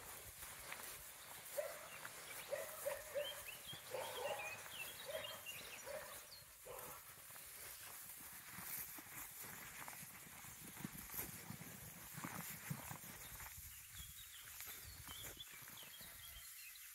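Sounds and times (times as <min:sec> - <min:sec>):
rustling steps in grass: 0:00.0 - 0:16.2.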